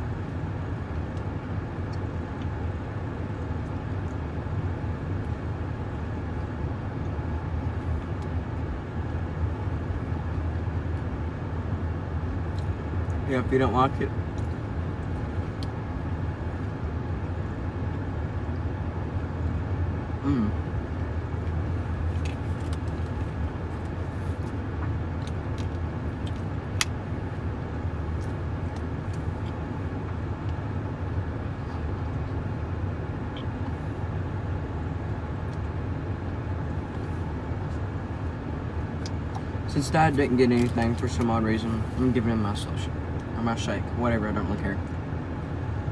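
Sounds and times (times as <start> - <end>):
car engine rumble: 0.0 - 45.9.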